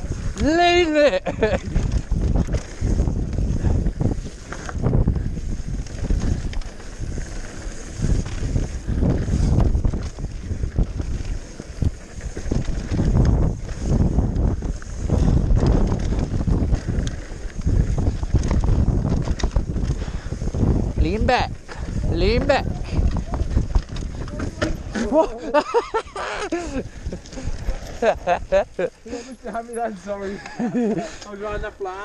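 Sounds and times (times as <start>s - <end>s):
bike rattling and knocking: 0.0s - 31.4s
wind buffeting microphone: 0.0s - 32.0s.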